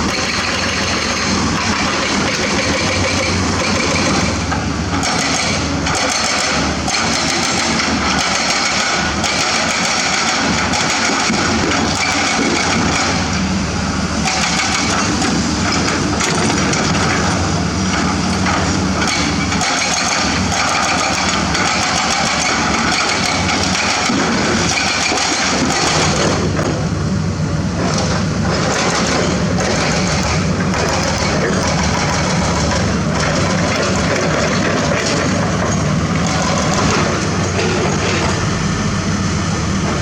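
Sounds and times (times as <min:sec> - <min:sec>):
knocks and clatter: 0:00.0 - 0:13.3, 0:14.2 - 0:26.9, 0:27.8 - 0:38.5
diesel excavator running: 0:00.0 - 0:40.0.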